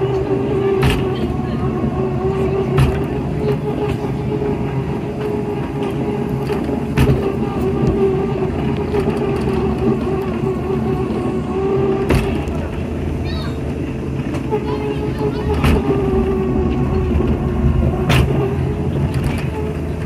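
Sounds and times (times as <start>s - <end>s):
track ride car humming on rails: 0.0s - 20.0s.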